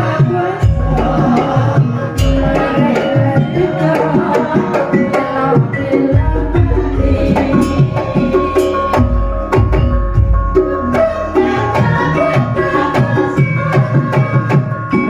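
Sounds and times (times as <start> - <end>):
metallophones ringing notes: 0.0 - 15.0.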